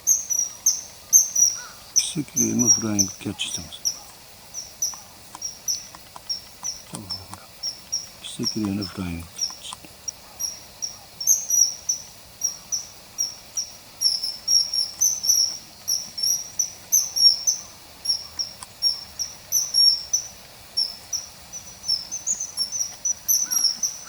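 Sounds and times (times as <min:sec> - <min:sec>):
bird chirping sharply: 0:00.0 - 0:24.0.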